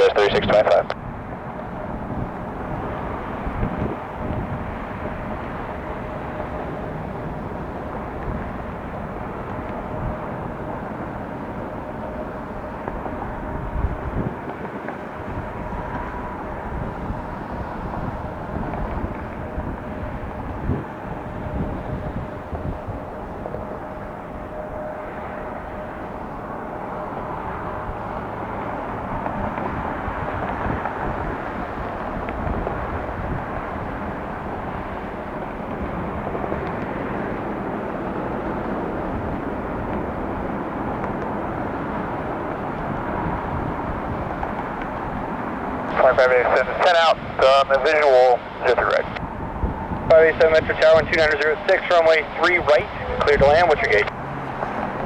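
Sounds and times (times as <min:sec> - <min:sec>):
jet engine rush with whine: 0:00.0 - 0:55.0
wind buffeting on microphone: 0:00.1 - 0:55.0.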